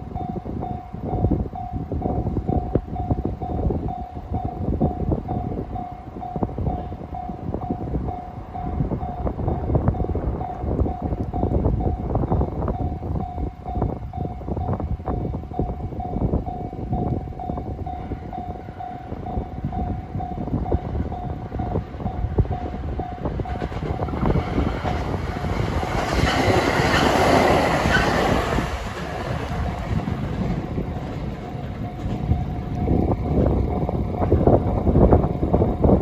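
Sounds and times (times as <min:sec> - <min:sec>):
train rumble and wheel clatter: 0:00.0 - 0:36.0.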